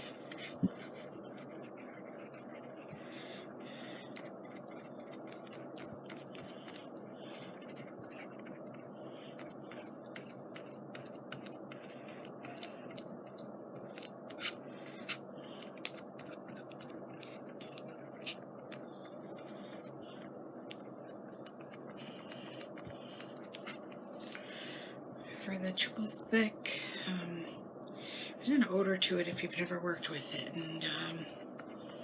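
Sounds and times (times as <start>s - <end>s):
room fan humming: 0.0s - 32.0s.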